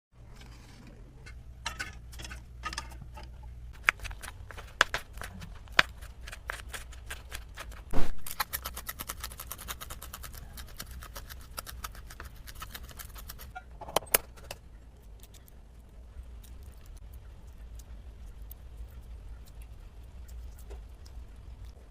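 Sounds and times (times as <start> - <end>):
low steady hum: 0.2 - 21.9.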